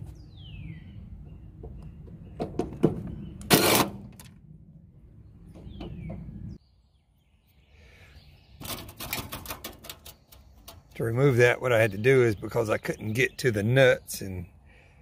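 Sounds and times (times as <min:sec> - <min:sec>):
bird chirp: 0:00.0 - 0:03.5, 0:05.0 - 0:15.0.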